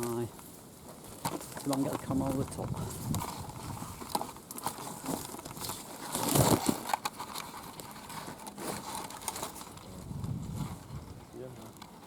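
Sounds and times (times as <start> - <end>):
hedge leaves and twigs rustling: 0.0 - 12.0.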